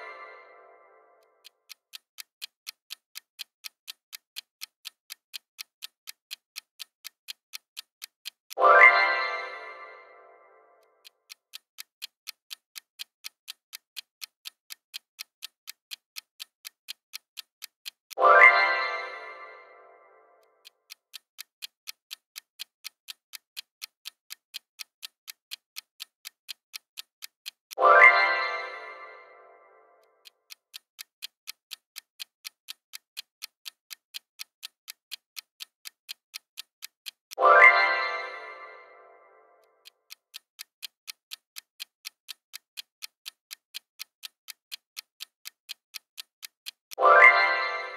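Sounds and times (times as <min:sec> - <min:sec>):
clock ticking: 0:00.0 - 0:47.9.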